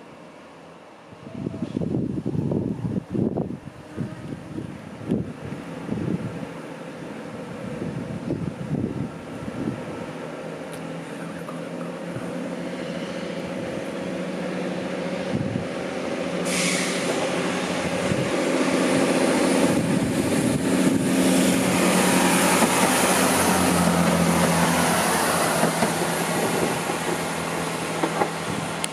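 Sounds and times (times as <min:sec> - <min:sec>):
diesel train engine drone: 0:00.0 - 0:28.9
wheels hissing on rails: 0:00.0 - 0:28.9.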